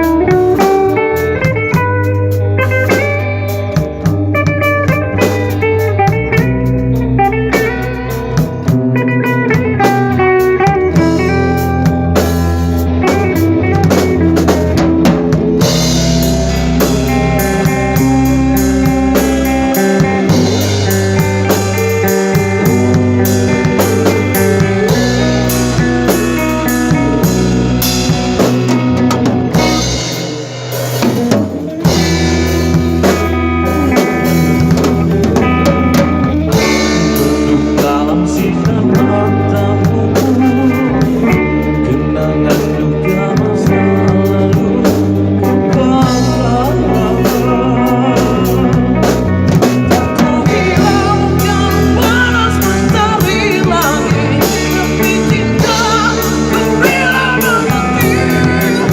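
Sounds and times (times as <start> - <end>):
rock band playing instrumental: 0.0 - 58.9.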